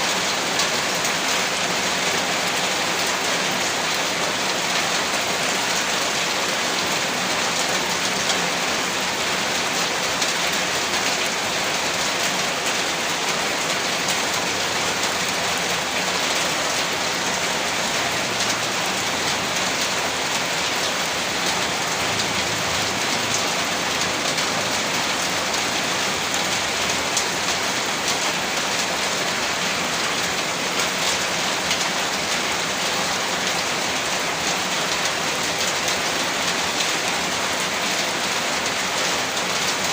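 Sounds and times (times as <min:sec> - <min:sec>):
heavy rain on a rooftop: 0:00.0 - 0:39.9.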